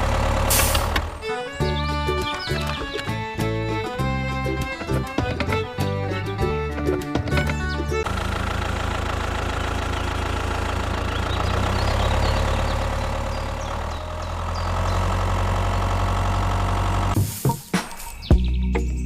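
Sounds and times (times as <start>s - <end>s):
engine humming steadily: 0.0s - 17.4s.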